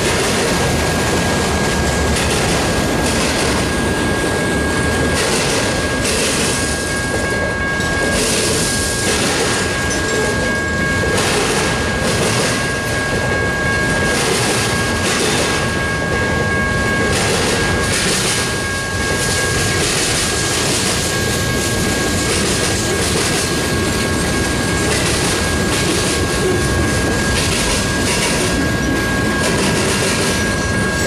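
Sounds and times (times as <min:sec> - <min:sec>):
high ringing tone: 0:00.0 - 0:31.0
train wheels rumbling on rail: 0:00.0 - 0:31.0.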